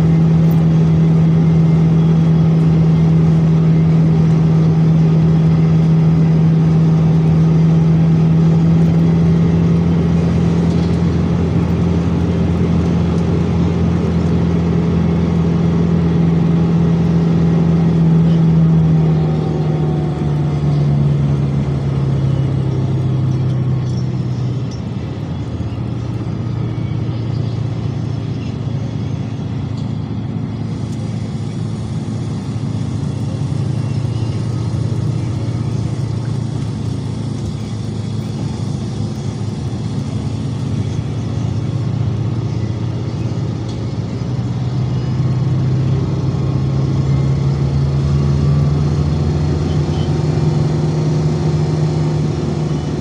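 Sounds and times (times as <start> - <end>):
vehicle engine and road noise: 0.0 - 53.0.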